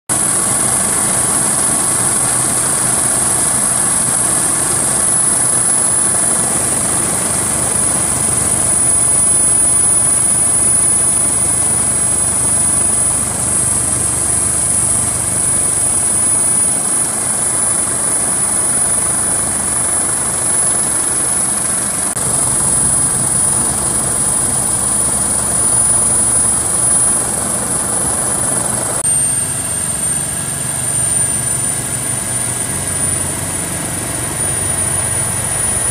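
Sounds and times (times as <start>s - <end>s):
helicopter engine and rotor noise: 0.1s - 35.9s
high-pitched turbine whine: 0.1s - 35.9s.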